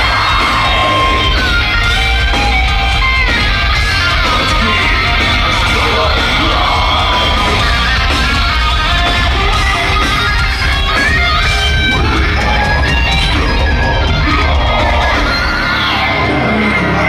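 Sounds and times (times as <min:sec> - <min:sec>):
distorted electric guitars: 0:00.0 - 0:17.0
live metal band playing: 0:00.0 - 0:17.0.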